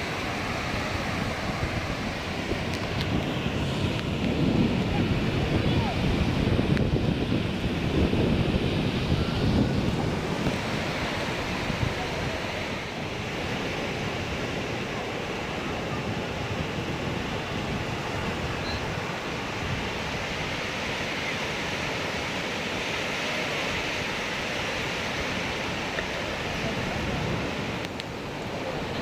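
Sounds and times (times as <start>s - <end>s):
waves washing onto beach: 0.0s - 29.0s
wind on microphone: 0.0s - 29.0s.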